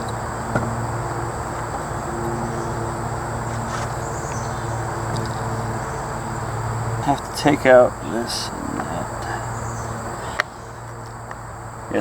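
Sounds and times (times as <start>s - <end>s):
high whine: 0.0s - 12.0s
steady low hum: 0.0s - 12.0s.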